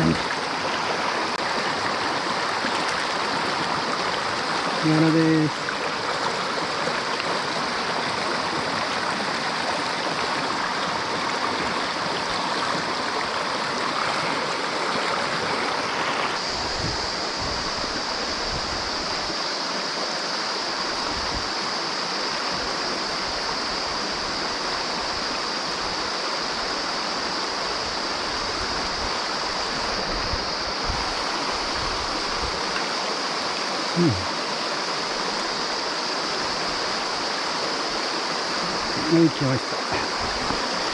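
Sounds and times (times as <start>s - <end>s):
stream water running over rocks: 0.0s - 40.9s.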